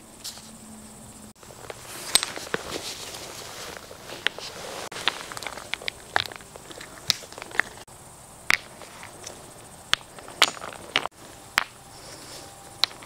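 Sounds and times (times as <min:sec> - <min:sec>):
stones clacking together: 0:01.4 - 0:11.9, 0:12.5 - 0:13.0.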